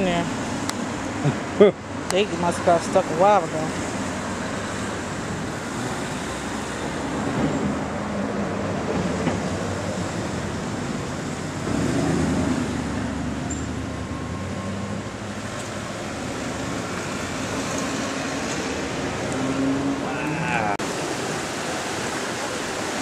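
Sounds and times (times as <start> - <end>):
road traffic noise: 0.0 - 23.0
vehicle passing: 2.5 - 22.1.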